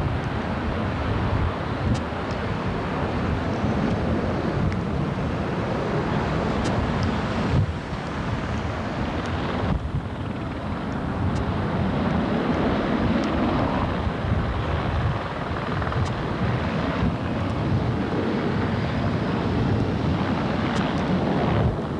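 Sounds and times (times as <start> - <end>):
loud jet engine roar: 0.0 - 21.9.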